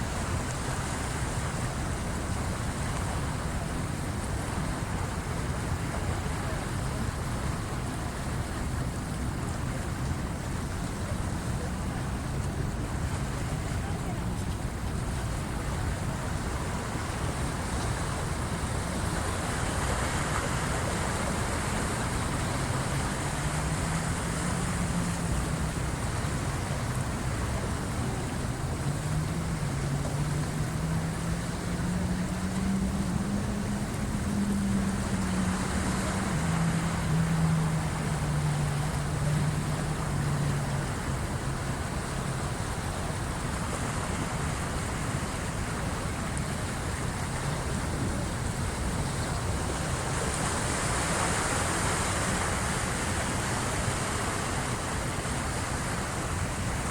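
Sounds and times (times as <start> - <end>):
low engine hum: 0.0 - 56.9
waves washing in: 0.0 - 56.9.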